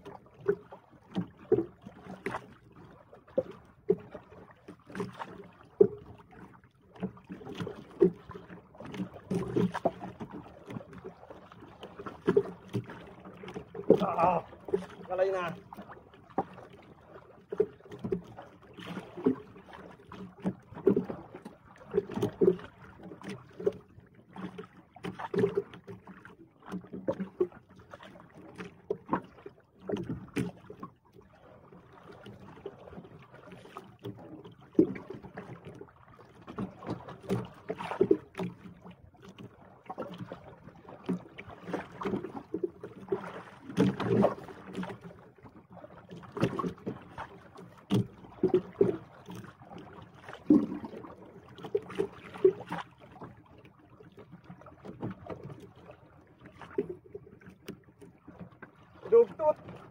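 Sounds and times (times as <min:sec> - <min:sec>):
water slapping boat hull: 0:00.0 - 0:59.9.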